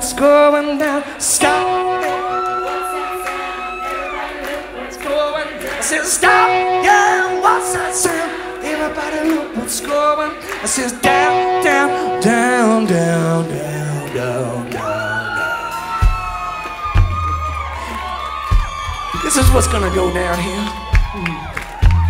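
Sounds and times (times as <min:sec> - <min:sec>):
song with sung vocals: 0:00.0 - 0:22.0.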